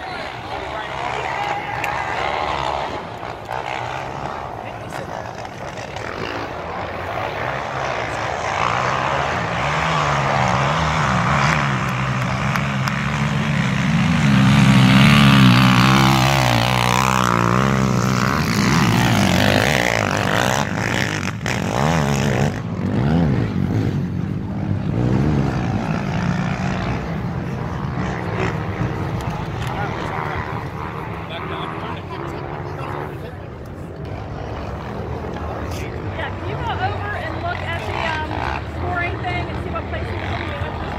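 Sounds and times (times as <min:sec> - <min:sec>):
quad engine revving: 0:00.0 - 0:33.1, 0:34.0 - 0:40.9.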